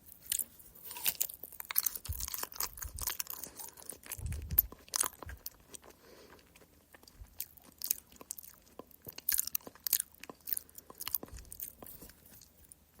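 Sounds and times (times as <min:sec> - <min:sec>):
person chewing banana: 0:00.0 - 0:13.0.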